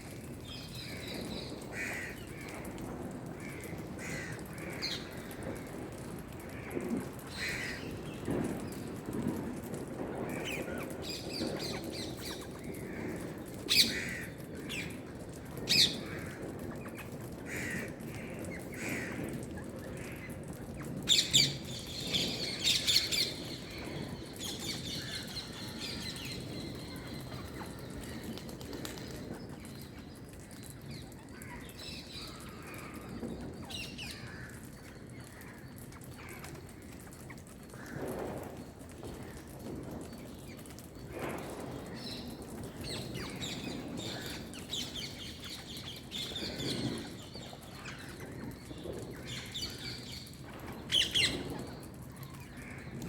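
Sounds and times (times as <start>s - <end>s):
low background noise: 0.0s - 53.0s.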